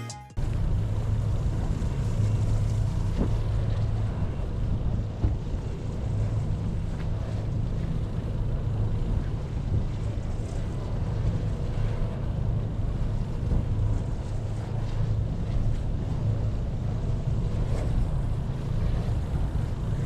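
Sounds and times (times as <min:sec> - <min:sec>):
wind buffeting microphone: 0:00.4 - 0:20.0.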